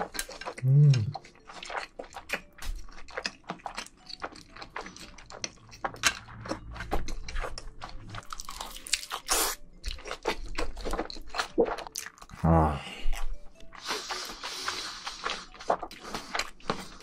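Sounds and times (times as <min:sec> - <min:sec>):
person chewing noodles: 0:00.0 - 0:17.0.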